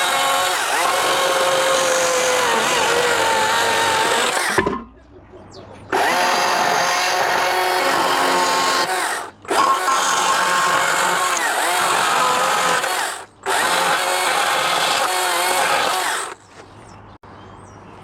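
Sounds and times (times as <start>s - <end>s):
chainsaw cutting wood: 0.0s - 4.7s, 5.9s - 16.4s.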